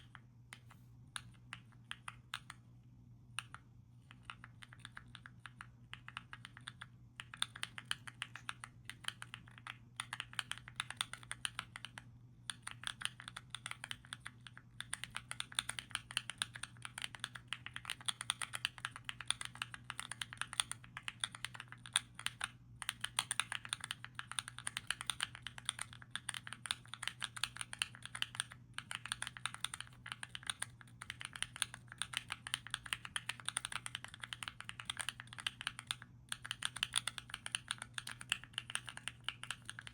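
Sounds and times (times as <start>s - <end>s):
faint low hum: 0.0s - 39.9s
fast typing on mechanical keyboard: 4.1s - 39.9s.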